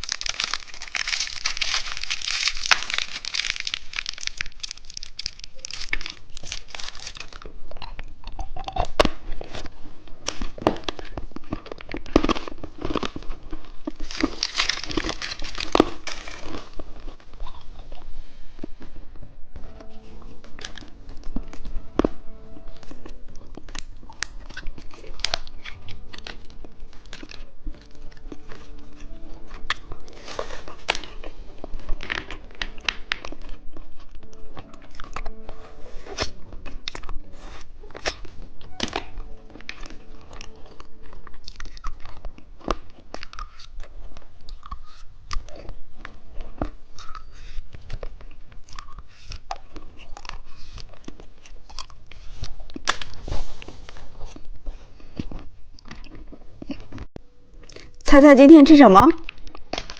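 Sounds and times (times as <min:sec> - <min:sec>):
crunching hard candy: 0:00.0 - 0:18.8, 0:20.5 - 0:58.1.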